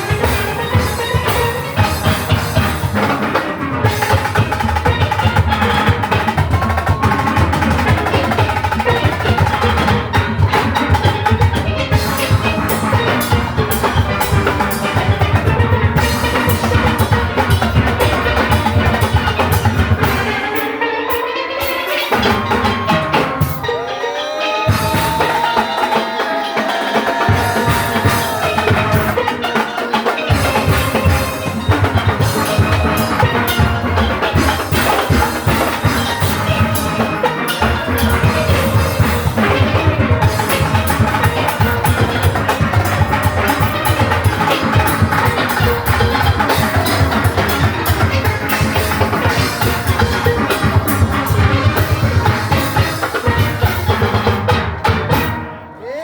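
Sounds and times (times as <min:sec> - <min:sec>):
drum kit and percussion: 0:00.0 - 0:56.0.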